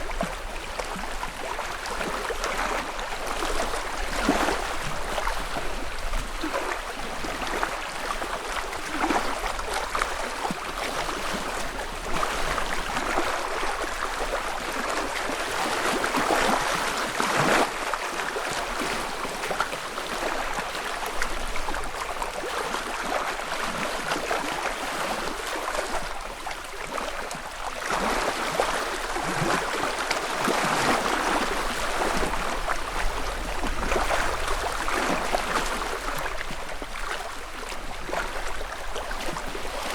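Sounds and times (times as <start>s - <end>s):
wavelets lapping against shore: 0.0s - 39.9s.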